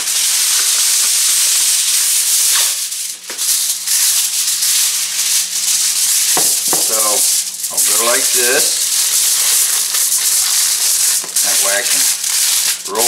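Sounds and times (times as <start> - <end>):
aluminum foil crinkling: 0.0 - 13.0.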